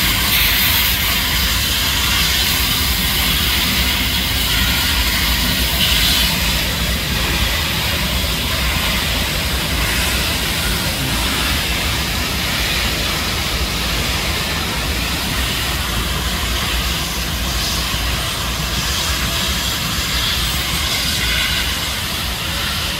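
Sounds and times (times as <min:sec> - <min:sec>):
passenger train rolling past: 0:00.0 - 0:22.9.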